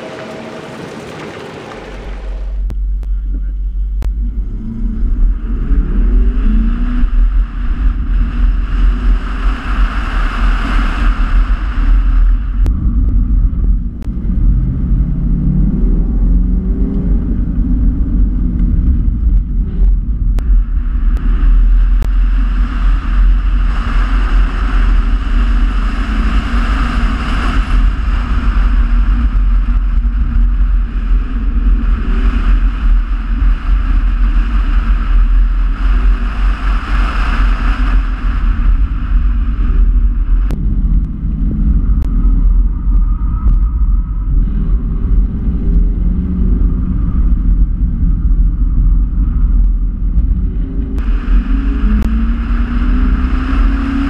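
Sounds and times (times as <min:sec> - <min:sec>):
car engine revving: 0:00.0 - 0:54.0
road noise: 0:00.0 - 0:54.0.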